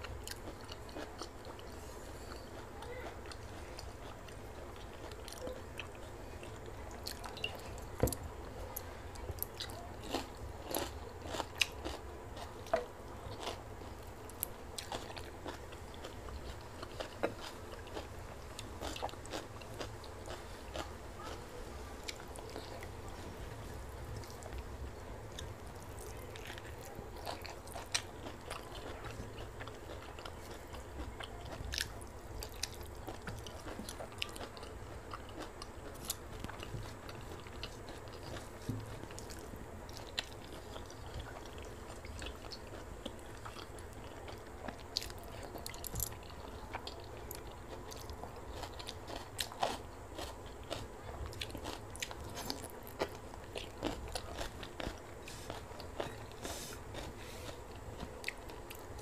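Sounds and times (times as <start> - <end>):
person chewing food: 0.0 - 59.0
steady low hum: 0.0 - 59.0.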